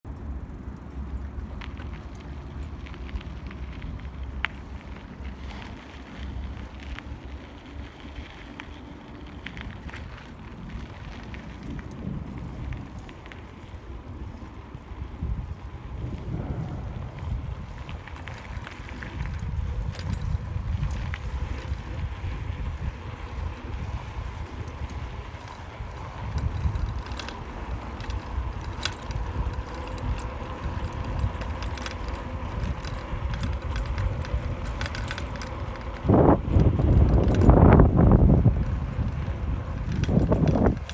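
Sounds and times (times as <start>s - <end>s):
wind rumbling on microphone: 0.2s - 40.9s.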